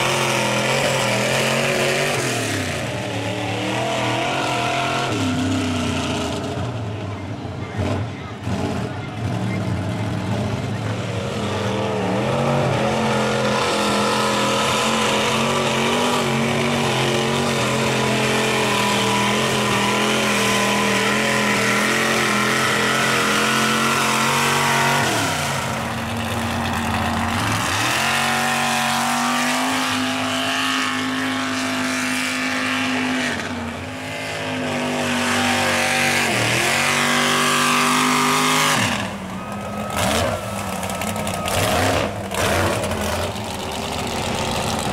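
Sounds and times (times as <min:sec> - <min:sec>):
truck engines revving: 0:00.0 - 0:44.9.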